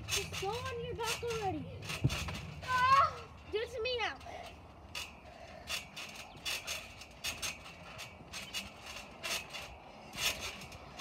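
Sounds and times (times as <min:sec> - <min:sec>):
trampoline springs squeaking and rattling: 0:00.0 - 0:11.0.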